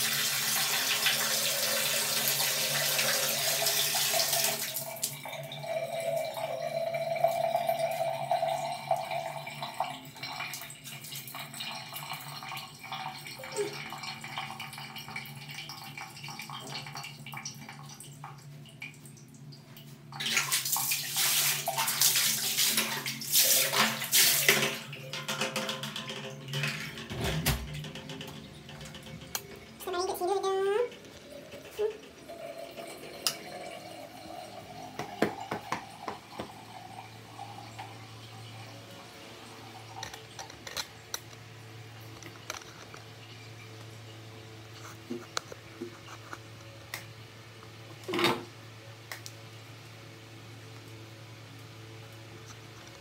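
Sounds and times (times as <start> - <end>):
tap water filling bucket: 0.0 - 44.0.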